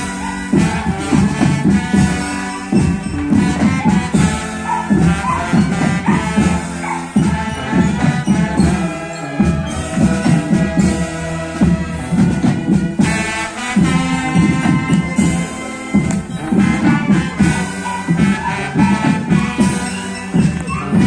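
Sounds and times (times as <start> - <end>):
bass drums: 0.0 - 21.0
cymbals: 0.0 - 21.0
marching band playing: 0.0 - 21.0
snare drums: 0.0 - 21.0.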